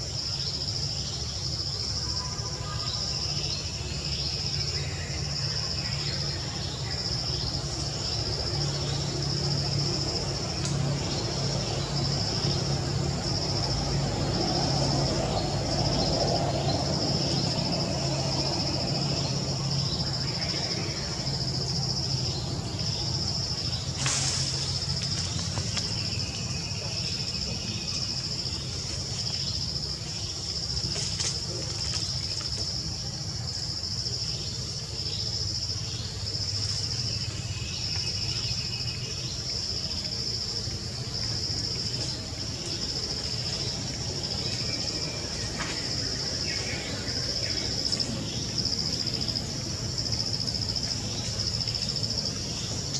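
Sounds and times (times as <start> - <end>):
insects chorus: 0.0 - 52.9.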